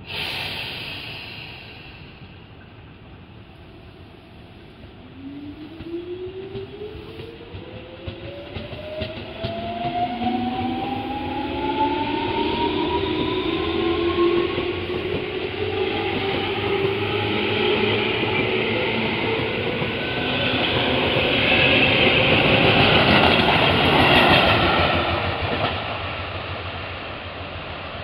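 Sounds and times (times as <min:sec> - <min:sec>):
wheels rumbling on rail: 0:00.1 - 0:28.0.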